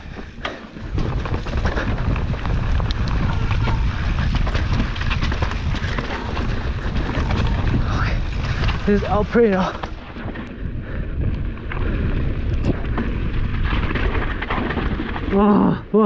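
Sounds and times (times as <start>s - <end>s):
bike clicks and rattles: 0.0s - 15.9s
wind buffeting microphone: 0.0s - 15.9s.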